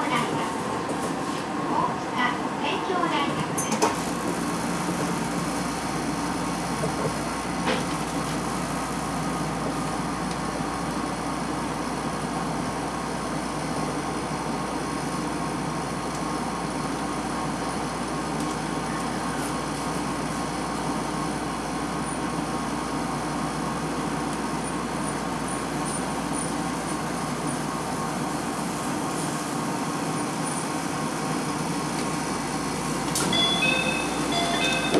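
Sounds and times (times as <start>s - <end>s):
train interior hum and rumble: 0.0s - 34.9s.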